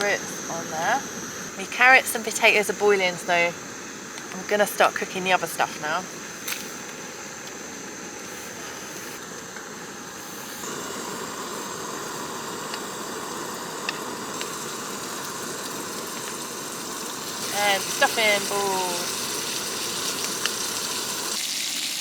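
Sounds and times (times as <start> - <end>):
gas stove burners hissing: 0.0 - 22.0.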